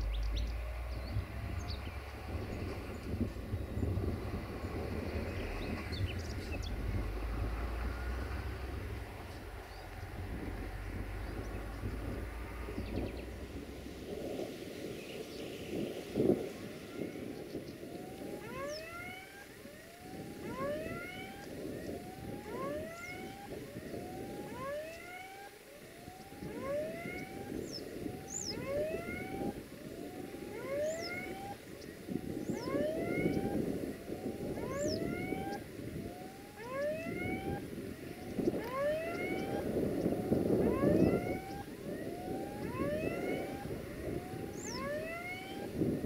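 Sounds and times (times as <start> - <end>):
rising whooping calls: 0.0 - 13.8, 16.4 - 46.0.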